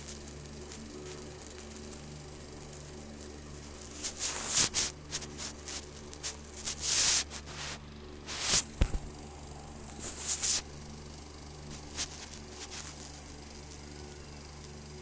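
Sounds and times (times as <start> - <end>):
electric fan motor humming: 0.0 - 15.0.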